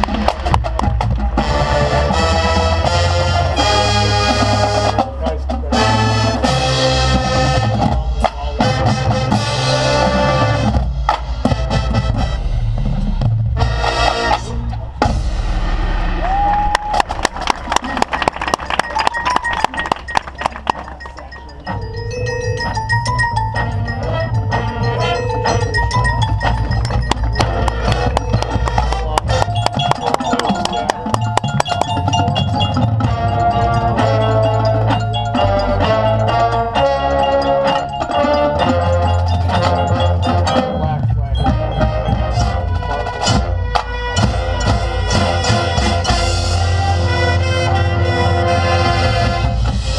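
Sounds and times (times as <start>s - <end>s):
brass chords: 0.0s - 16.2s, 21.9s - 49.9s
marching drum line: 0.0s - 49.9s.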